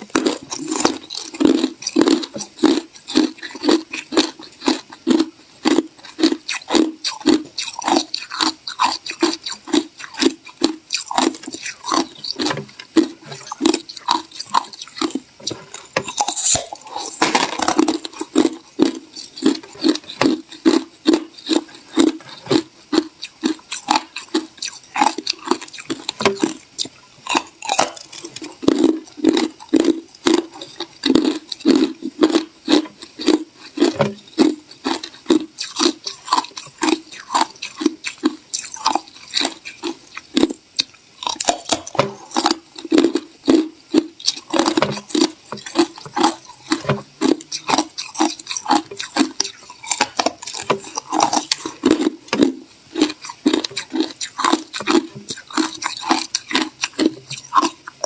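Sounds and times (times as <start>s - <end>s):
ice being chewed: 0.0s - 58.0s.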